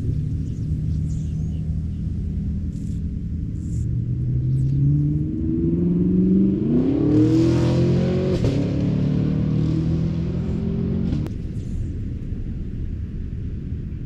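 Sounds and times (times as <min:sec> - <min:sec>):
car engine accelerating: 0:00.0 - 0:11.4.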